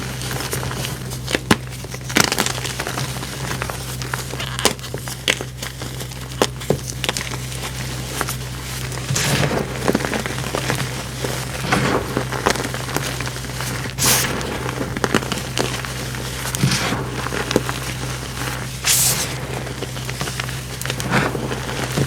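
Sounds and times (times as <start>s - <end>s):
powder crackling crushed by hand: 0.0s - 22.0s
steady low hum: 0.0s - 22.0s.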